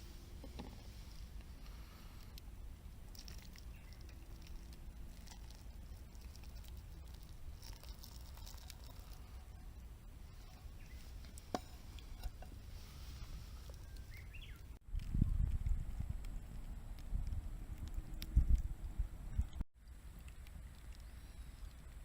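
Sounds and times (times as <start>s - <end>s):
campfire crackling and popping: 0.0s - 9.3s, 10.3s - 18.7s
low steady rumble: 0.0s - 22.0s.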